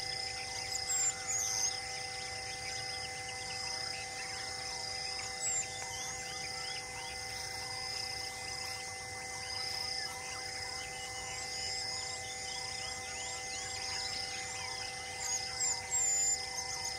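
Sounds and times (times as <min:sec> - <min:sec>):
bird chirps: 0:00.0 - 0:16.9
insects droning: 0:00.0 - 0:16.9.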